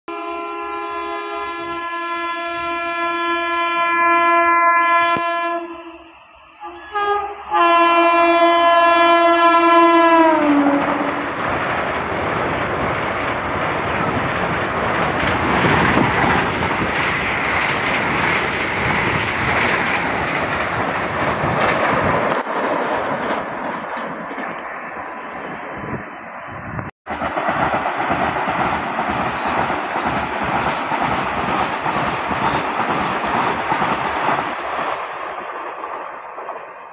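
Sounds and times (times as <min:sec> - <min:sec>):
train passing at speed: 0:00.1 - 0:36.9.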